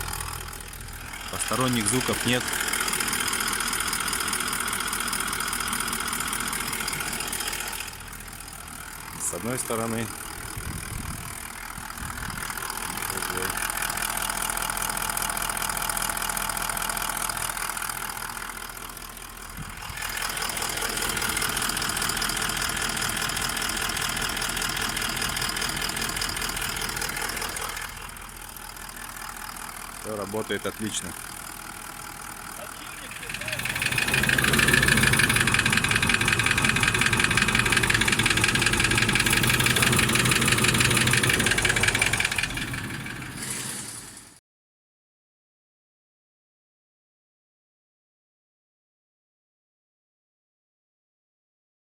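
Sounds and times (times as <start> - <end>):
diesel engine idling: 0.0 - 44.2.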